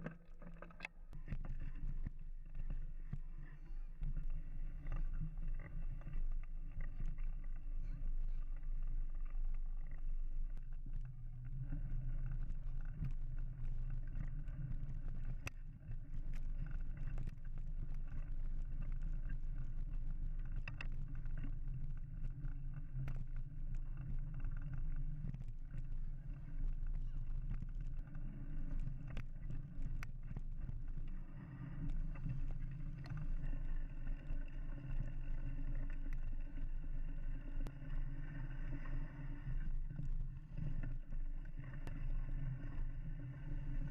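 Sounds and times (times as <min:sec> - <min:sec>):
bike riding rumble and wind: 0:00.0 - 0:43.9.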